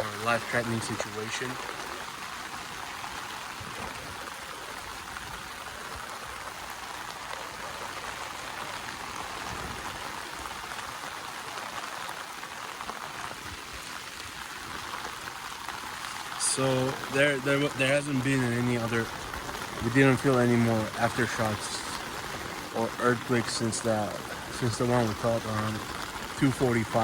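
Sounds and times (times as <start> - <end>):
river water rushing: 0.0 - 27.0
steady rain: 0.0 - 27.0.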